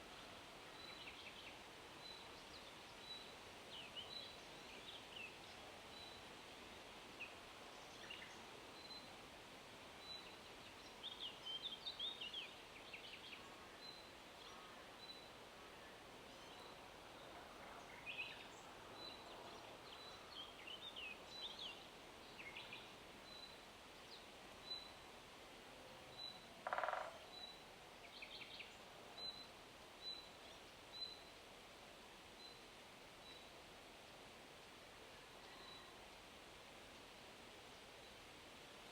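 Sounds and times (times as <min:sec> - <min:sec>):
wind in leaves: 0:00.0 - 0:38.9.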